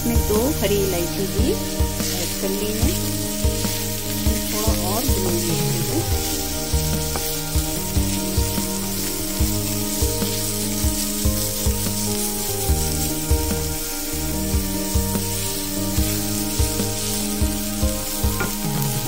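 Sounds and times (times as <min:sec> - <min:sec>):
background music with steady beat: 0:00.0 - 0:19.0
food sizzling in a pan: 0:00.0 - 0:19.0.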